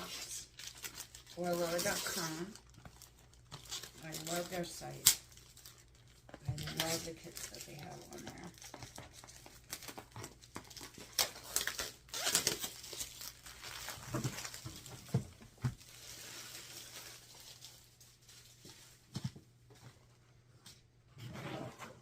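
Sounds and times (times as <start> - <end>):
packaging crinkling and rustling: 0.0 - 19.5.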